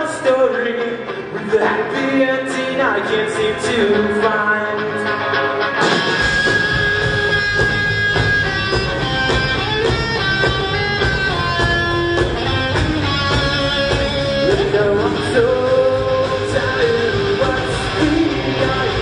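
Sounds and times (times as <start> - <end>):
live rock band playing: 0.0 - 19.0
sliding guitar melody: 0.0 - 19.0.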